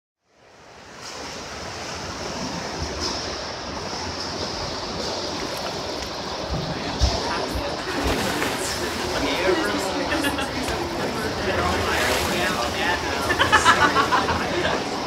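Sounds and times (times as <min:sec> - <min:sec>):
wash of water noise: 0:00.4 - 0:15.0.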